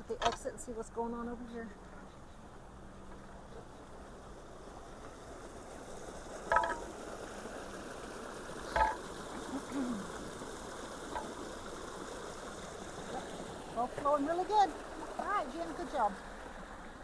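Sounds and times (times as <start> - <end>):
water rushing out of culvert: 0.0 - 17.0.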